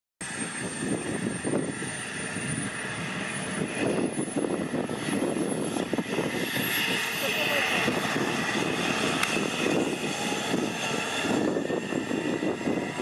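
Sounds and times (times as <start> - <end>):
helicopter turbine roar and whine: 0.2 - 13.0
rotor whoosh: 0.2 - 13.0.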